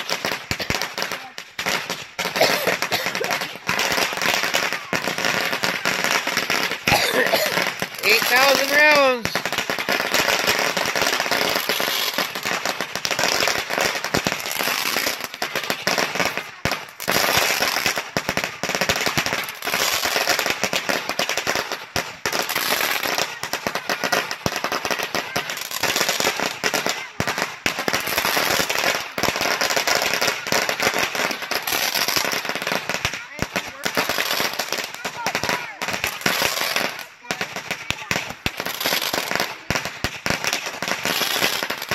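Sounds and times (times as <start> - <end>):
firecrackers going off: 0.0 - 41.9.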